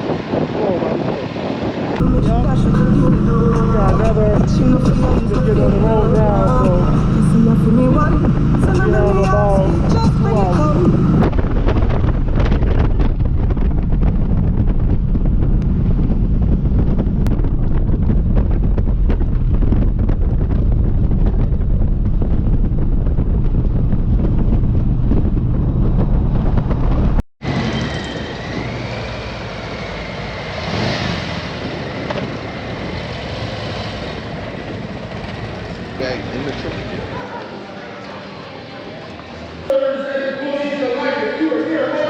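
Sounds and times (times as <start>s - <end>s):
wind buffeting microphone: 0.0s - 29.9s, 30.6s - 37.2s
vehicle noise: 0.0s - 42.0s
motorcycle engine: 2.0s - 39.7s.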